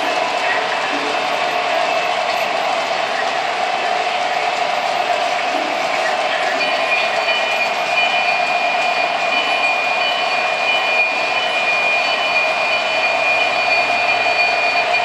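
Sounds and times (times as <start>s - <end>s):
model train rolling rumble: 0.0s - 15.0s.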